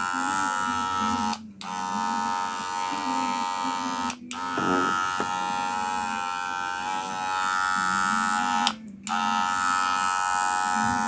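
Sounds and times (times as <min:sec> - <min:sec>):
hair clipper buzzing: 0:00.0 - 0:11.0.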